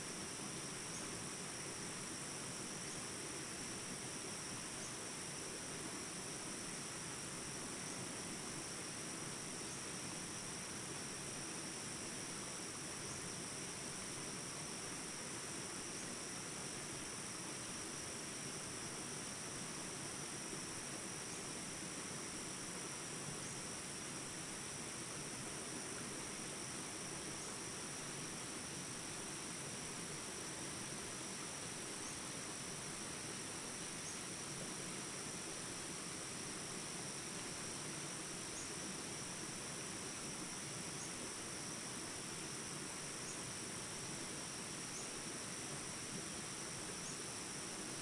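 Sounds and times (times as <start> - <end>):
insects chorus: 0.0 - 48.0.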